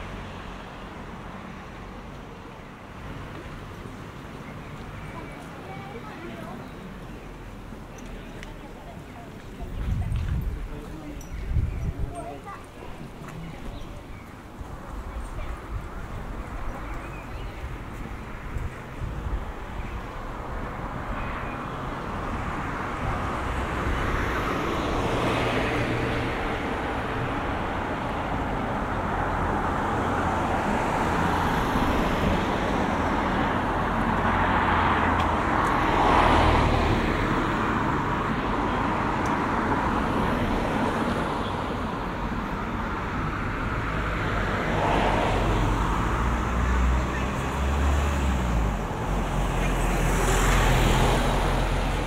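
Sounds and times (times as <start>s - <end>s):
cars passing: 0.0s - 52.0s.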